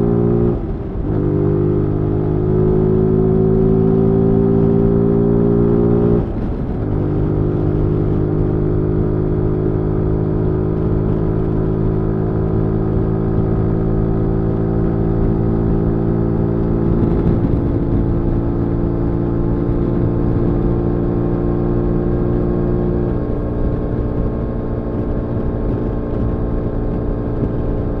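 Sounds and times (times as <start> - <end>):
motorcycle engine under way: 0.0 - 28.0.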